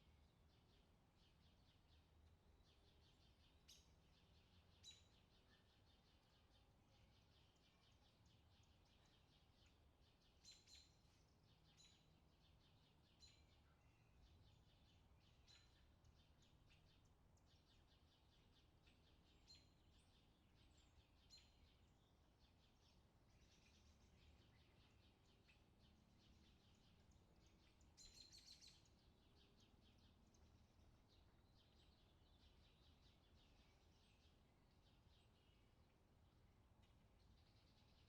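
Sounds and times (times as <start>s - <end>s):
bird chirps: 2.7s - 35.8s.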